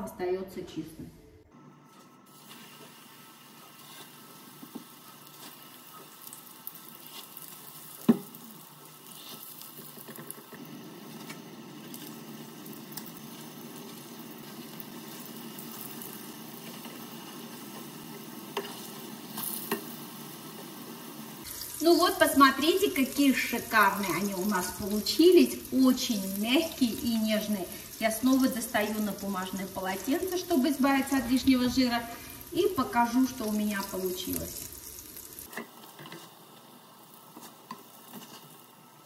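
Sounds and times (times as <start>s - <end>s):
patties sizzling in oil: 1.9s - 39.0s.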